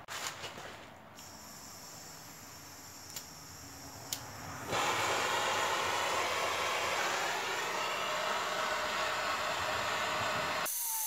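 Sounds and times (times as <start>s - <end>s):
blowtorch flame hissing: 1.2s - 11.0s.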